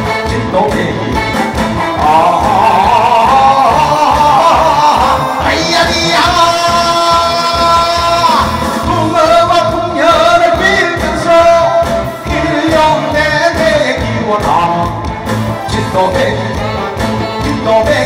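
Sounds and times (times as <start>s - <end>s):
instrumental music with steady beat: 0.0s - 18.0s
man singing into microphone: 0.0s - 18.0s.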